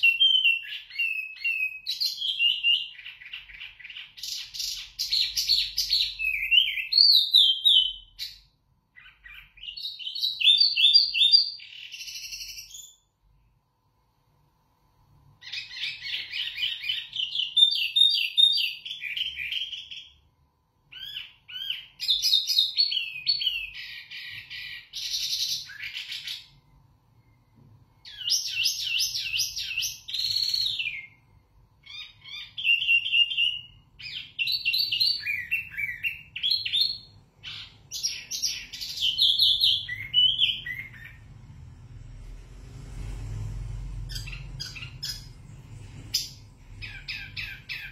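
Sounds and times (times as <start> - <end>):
bird singing with trills: 0.0 - 13.1, 15.4 - 20.2, 20.9 - 26.6, 28.0 - 31.2, 31.8 - 41.3, 44.1 - 45.5, 46.1 - 47.9.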